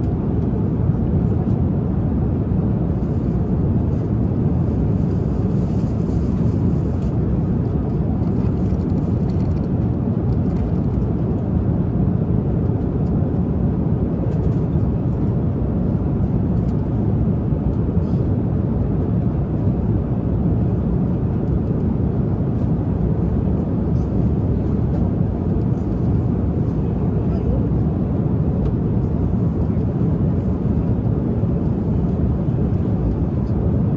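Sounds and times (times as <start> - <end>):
jet engines and airflow rumble: 0.0 - 33.9.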